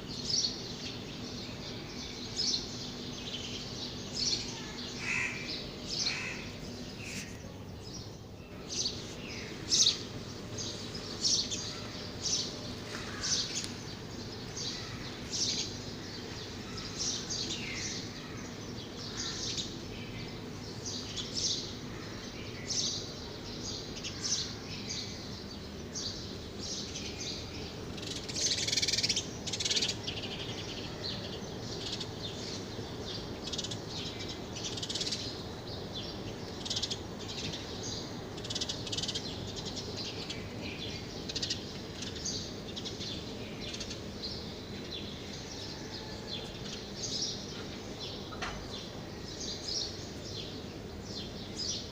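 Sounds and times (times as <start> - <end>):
steady low hum: 0.0 - 45.8
small birds chirping: 0.0 - 51.9.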